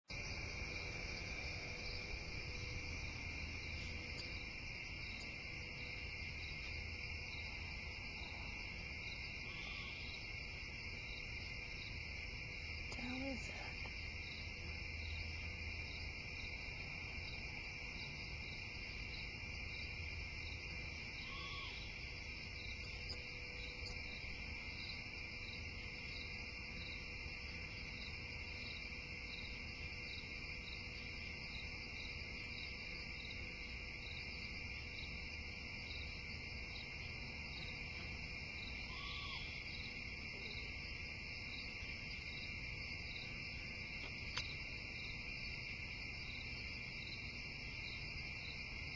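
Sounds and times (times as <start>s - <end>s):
insects trilling: 0.1s - 48.9s.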